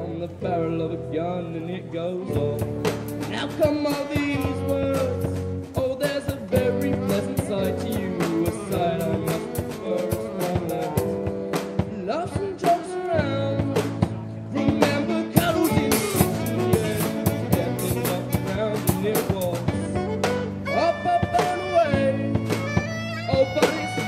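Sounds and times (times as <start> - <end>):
electric keyboard chords: 0.0 - 24.0
saxophone melody: 2.2 - 5.5, 6.4 - 13.8, 14.5 - 24.0
drum kit beat: 2.3 - 24.0.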